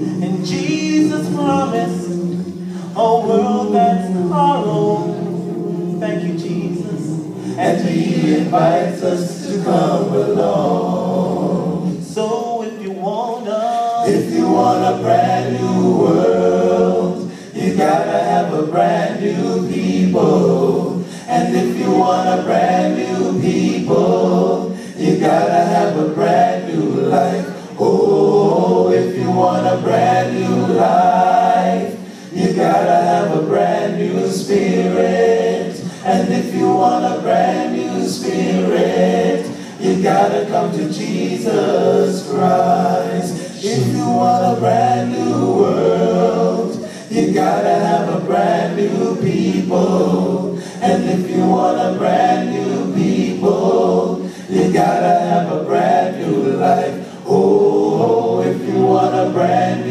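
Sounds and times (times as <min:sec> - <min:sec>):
men singing a cappella gospel: 0:00.0 - 0:59.9.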